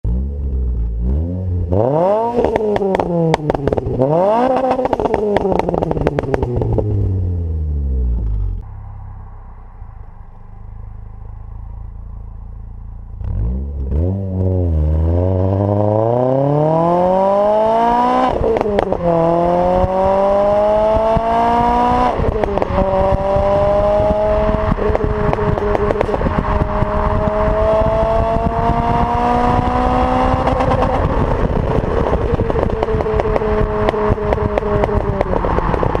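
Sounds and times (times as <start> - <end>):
car engine revving and accelerating: 0.0 - 10.6, 13.0 - 36.0.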